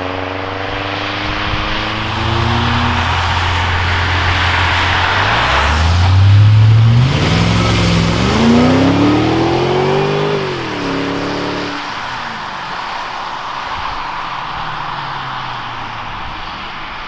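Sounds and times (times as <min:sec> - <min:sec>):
car engine revving: 0:00.0 - 0:16.8
tyres hissing on wet road: 0:01.3 - 0:17.0.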